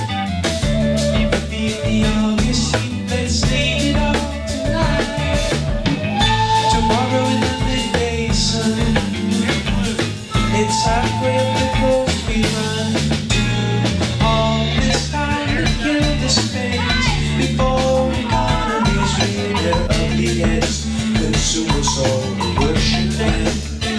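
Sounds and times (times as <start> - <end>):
held melody notes: 0.0 - 21.2
bass line: 0.0 - 23.9
drum kit steady beat: 0.0 - 23.9.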